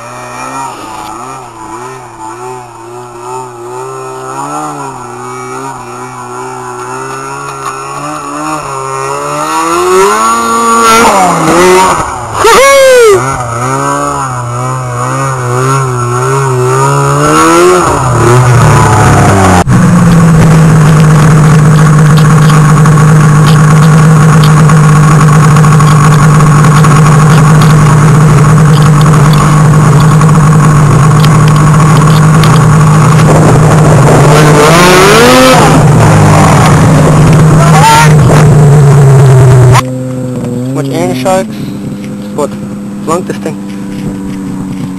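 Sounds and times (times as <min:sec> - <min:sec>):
snowmobile engines revving: 0:00.0 - 0:44.9.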